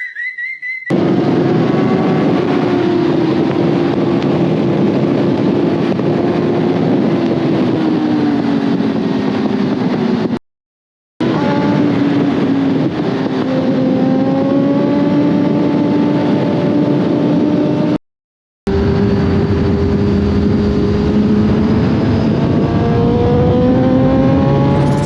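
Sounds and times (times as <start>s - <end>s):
motorcycle engine accelerating: 0.9s - 10.4s, 11.2s - 18.0s, 18.7s - 25.0s
wind rush: 0.9s - 10.4s, 11.2s - 18.0s, 18.7s - 25.0s.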